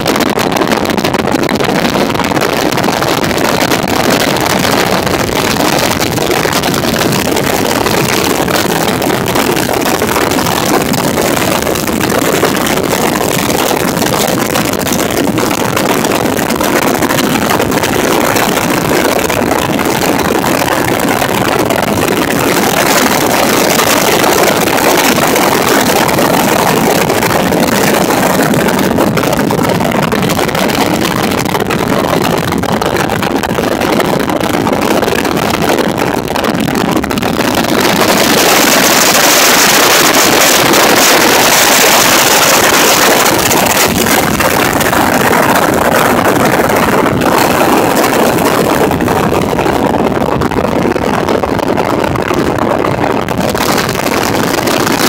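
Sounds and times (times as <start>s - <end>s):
outboard boat engine: 0.0s - 55.0s
water rushing along a hull: 0.0s - 55.0s
wind on the microphone: 0.0s - 55.0s.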